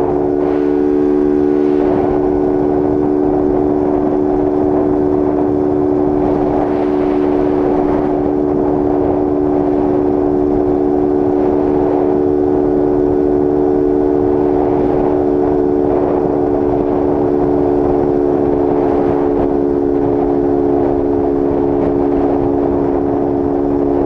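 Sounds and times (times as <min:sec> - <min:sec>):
motorcycle engine at high revs: 0:00.0 - 0:24.0
wind rushing over microphone: 0:00.0 - 0:24.0.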